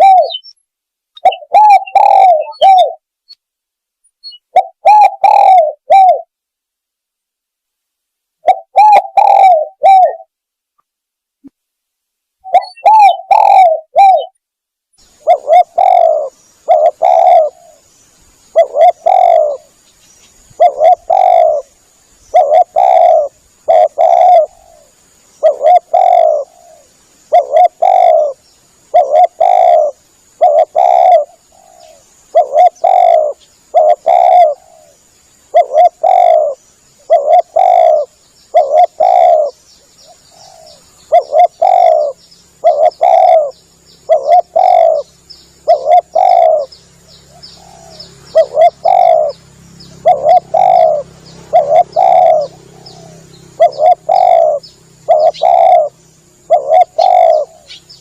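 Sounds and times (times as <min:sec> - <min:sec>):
dove cooing: 0:00.0 - 0:00.5, 0:01.2 - 0:03.0, 0:04.3 - 0:06.3, 0:08.4 - 0:10.3, 0:12.4 - 0:14.4, 0:15.1 - 0:17.9, 0:18.5 - 0:19.8, 0:20.4 - 0:58.0.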